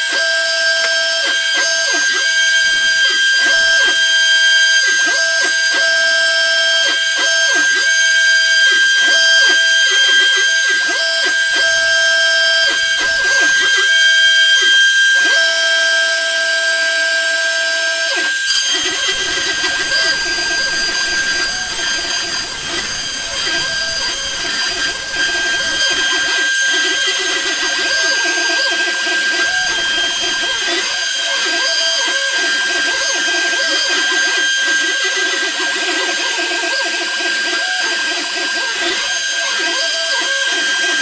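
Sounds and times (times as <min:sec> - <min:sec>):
bit cutting plywood: 0:00.0 - 0:41.0
router spindle whine: 0:00.0 - 0:41.0.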